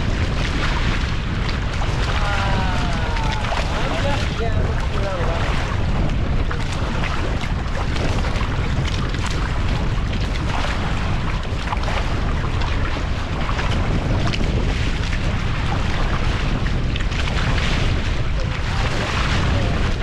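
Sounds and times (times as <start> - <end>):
water splashing along hulls: 0.0 - 20.0
wind buffeting microphone: 0.0 - 20.0.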